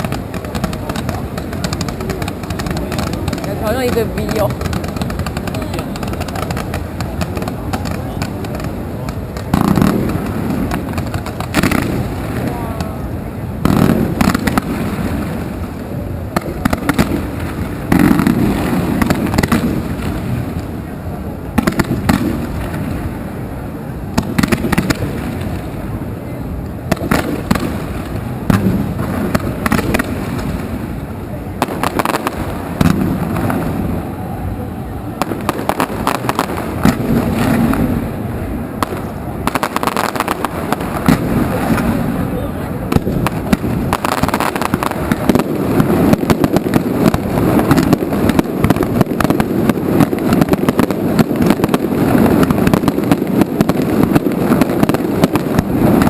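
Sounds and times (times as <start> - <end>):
fireworks bursting with deep booms: 0.0 - 56.0
fireworks crackling: 0.0 - 56.0
steady low rumble: 0.0 - 56.0.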